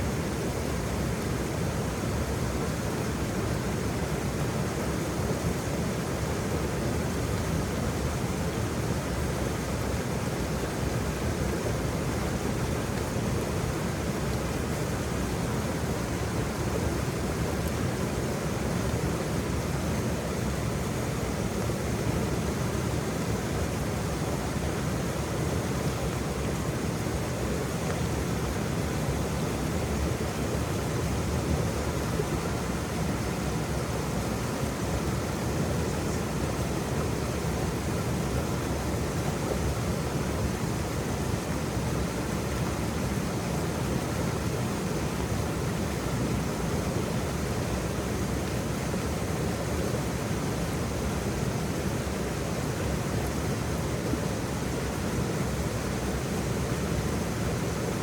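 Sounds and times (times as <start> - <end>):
waterfall rushing: 3.2 - 58.0.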